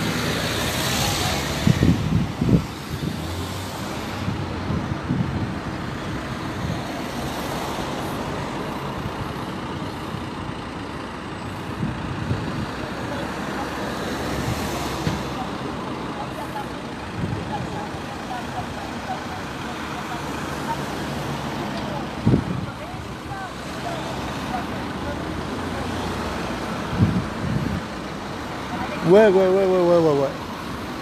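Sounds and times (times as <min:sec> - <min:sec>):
cars driving slowly past: 0:00.0 - 0:31.0.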